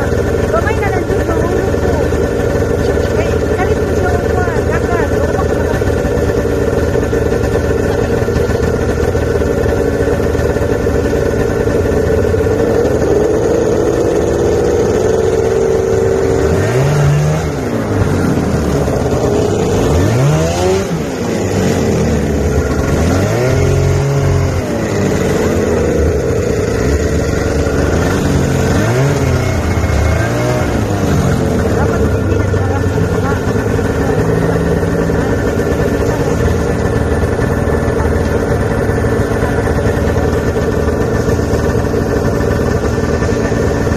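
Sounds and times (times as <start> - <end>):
snowmobile engine revving: 0.0 - 43.9.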